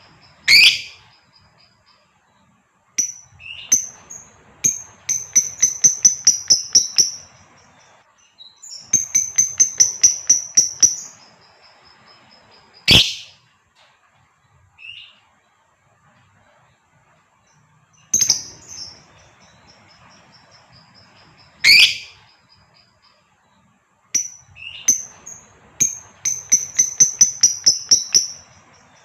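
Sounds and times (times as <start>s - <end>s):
lovebird chirping: 0.0s - 13.5s, 17.4s - 29.0s.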